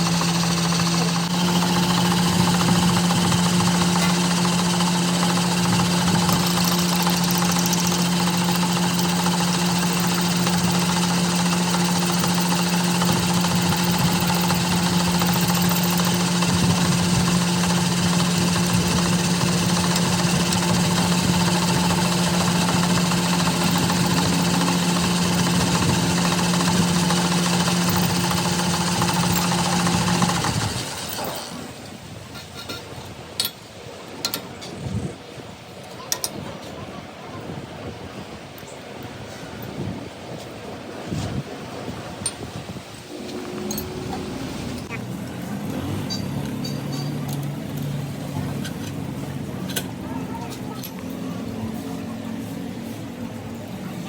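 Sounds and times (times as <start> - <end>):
machine humming and rattling: 0.0 - 34.8, 38.6 - 54.0.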